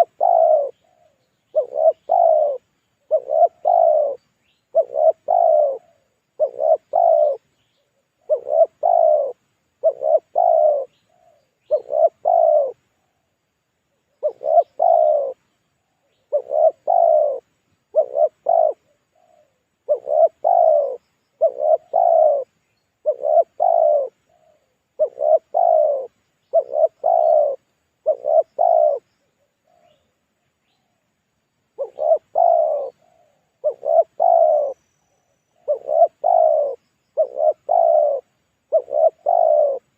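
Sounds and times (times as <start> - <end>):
dove cooing: 0.0 - 13.3, 14.0 - 31.0, 31.8 - 39.9.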